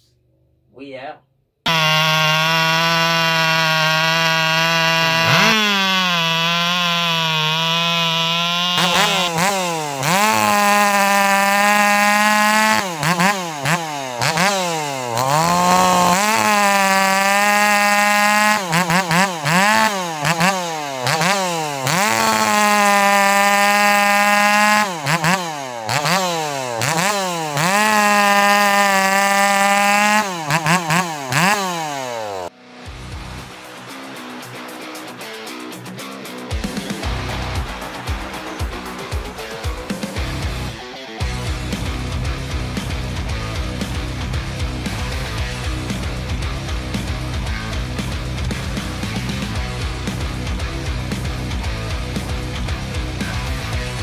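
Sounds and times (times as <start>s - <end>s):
chainsaws cutting logs: 1.7s - 54.0s.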